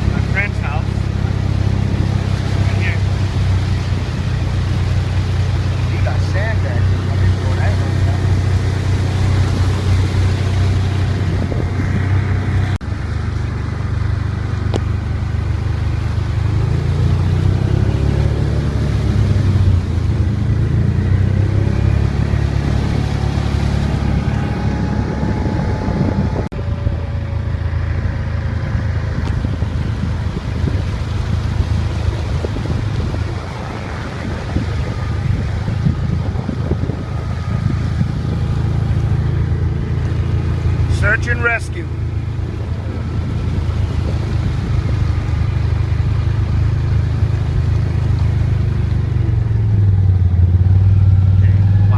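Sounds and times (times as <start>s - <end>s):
engine humming: 0.0s - 51.9s.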